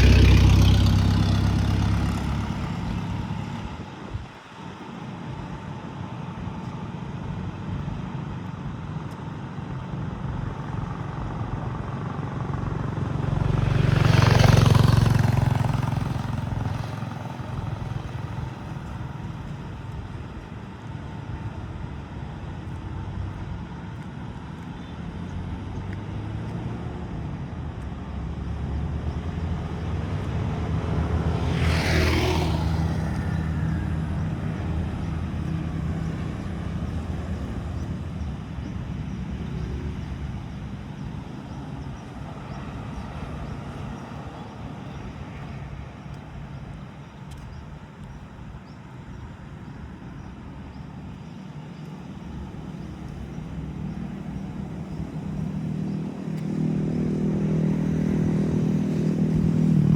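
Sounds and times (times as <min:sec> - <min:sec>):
low engine sound: 0:00.0 - 0:59.9
vehicles passing by: 0:00.0 - 0:59.9.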